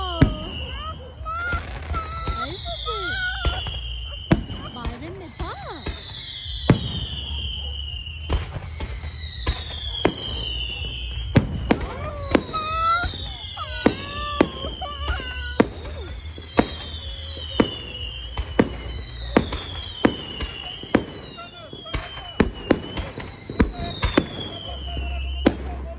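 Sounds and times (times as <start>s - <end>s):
firework bangs and crackles: 0.0s - 25.9s
firework whistles falling in pitch: 0.0s - 25.9s.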